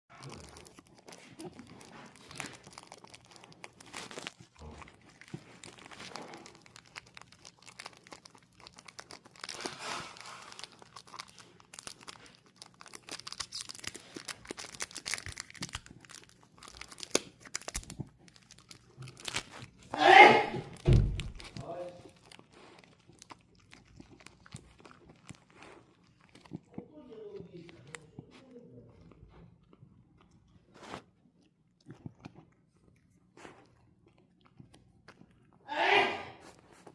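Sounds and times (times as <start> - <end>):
dog crunching a treat: 0.1 - 35.6, 36.4 - 36.9.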